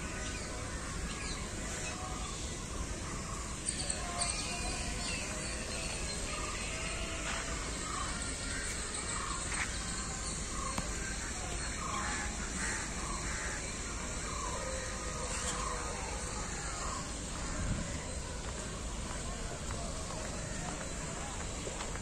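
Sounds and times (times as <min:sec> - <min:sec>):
birds calling: 0:00.0 - 0:22.0
outdoor background noise: 0:00.0 - 0:22.0.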